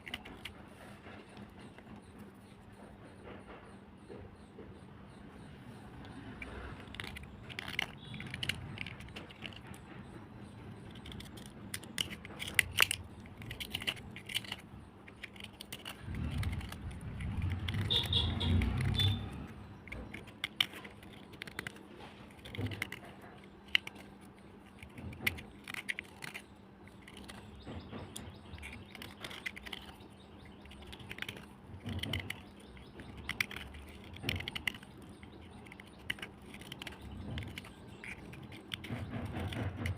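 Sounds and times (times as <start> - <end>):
slate cubes crunching: 0.0 - 0.6, 6.1 - 9.9, 10.7 - 39.9.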